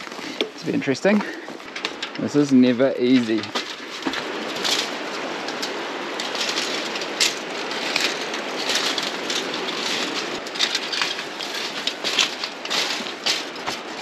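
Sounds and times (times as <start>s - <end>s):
bike rattling and clanking: 0.0s - 14.0s
steady rushing noise: 0.0s - 14.0s.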